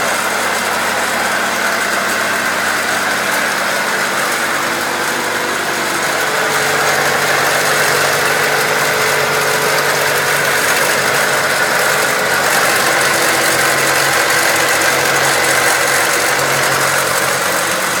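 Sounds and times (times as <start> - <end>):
car engine idling: 0.0 - 18.0
rattle in engine bay: 0.0 - 18.0.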